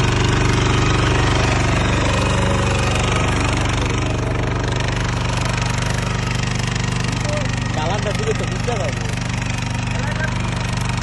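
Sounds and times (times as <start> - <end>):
power tiller engine running: 0.0 - 11.0.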